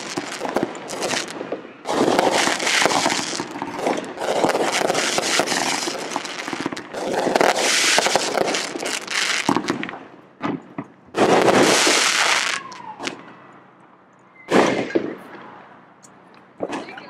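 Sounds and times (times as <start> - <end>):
fireworks bangs: 0.0 - 13.4, 14.5 - 15.6, 16.6 - 17.0
fireworks crackling: 0.0 - 13.4, 14.5 - 15.6.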